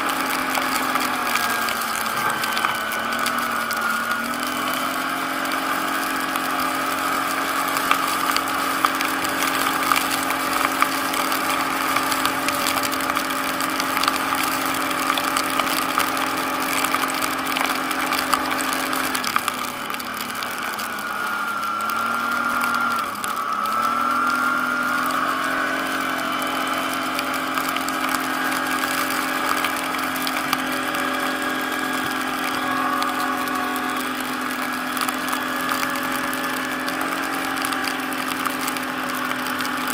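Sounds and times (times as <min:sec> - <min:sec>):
atv engine running: 0:00.0 - 0:39.9
small clicks and crackles: 0:00.0 - 0:39.9.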